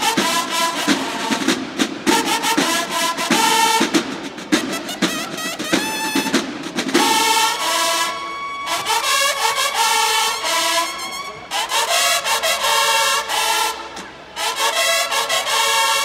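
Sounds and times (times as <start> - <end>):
bugles playing fanfare: 0.0 - 16.0
drum passage: 0.0 - 16.0.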